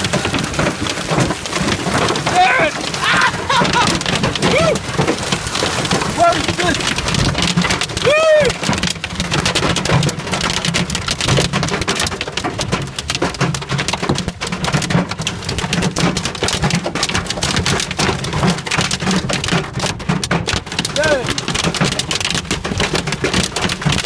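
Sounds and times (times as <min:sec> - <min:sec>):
hail clattering on car: 0:00.0 - 0:24.0.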